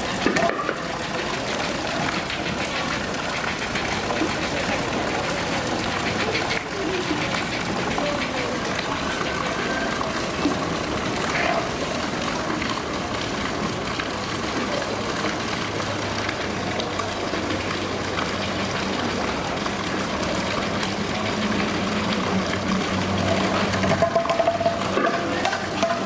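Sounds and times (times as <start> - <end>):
running water rushing: 0.0 - 26.0.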